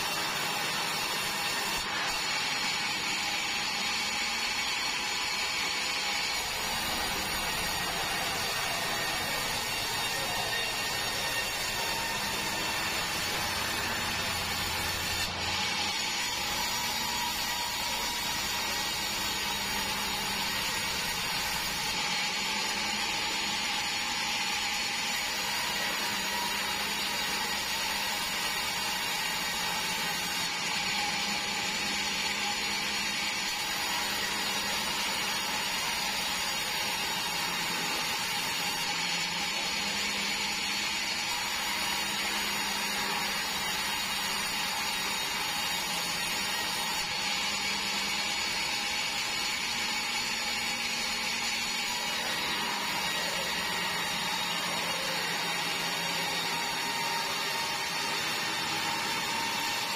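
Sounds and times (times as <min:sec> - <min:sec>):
bandsaw cutting boards: 0:00.0 - 0:59.9.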